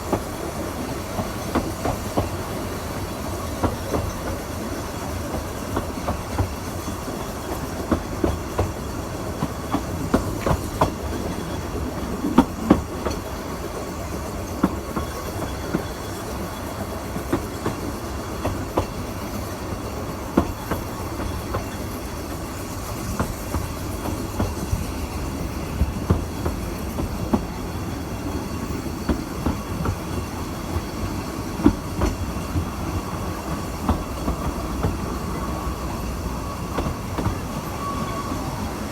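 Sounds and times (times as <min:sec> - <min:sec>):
railway carriage rumbling: 0:00.0 - 0:38.9
wheels clicking over rail joints: 0:00.0 - 0:38.9.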